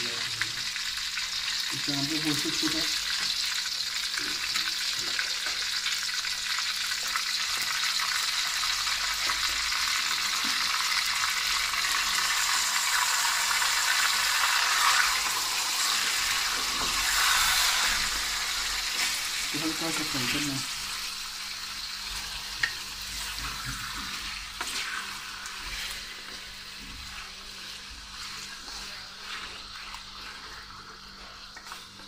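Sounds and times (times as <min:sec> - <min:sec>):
meat sizzling in hot oil: 0:00.0 - 0:32.0.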